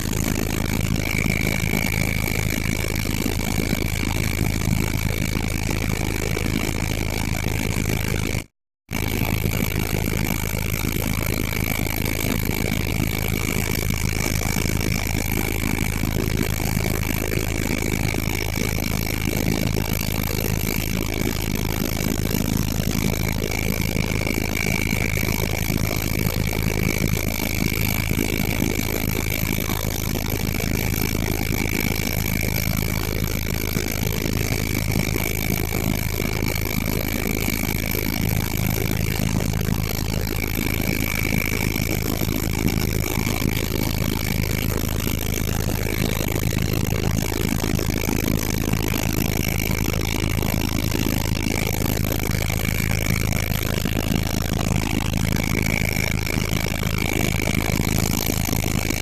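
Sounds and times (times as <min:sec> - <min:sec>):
helicopter engine and rotor: 0:00.0 - 0:59.0
high-pitched whine: 0:00.0 - 0:59.0.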